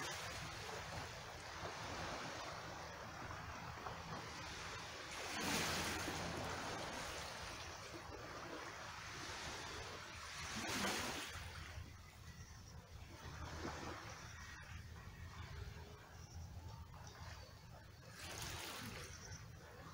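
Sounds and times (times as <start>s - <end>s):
small waves on rocky shore: 0.0s - 19.9s.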